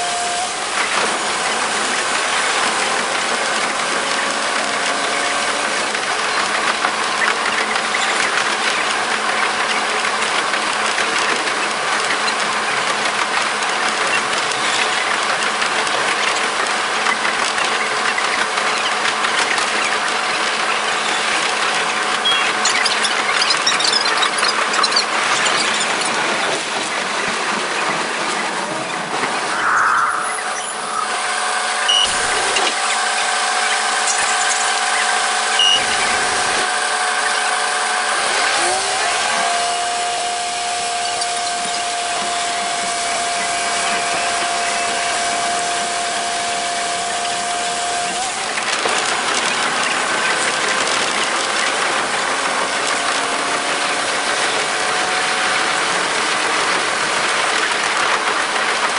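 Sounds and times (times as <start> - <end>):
sped-up railcar mechanical rattle: 0.0 - 29.8, 30.6 - 58.9.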